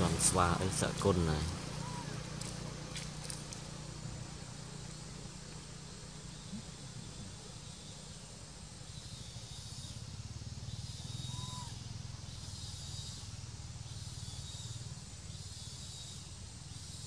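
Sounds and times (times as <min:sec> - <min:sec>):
insect chorus hiss: 0:00.0 - 0:17.0.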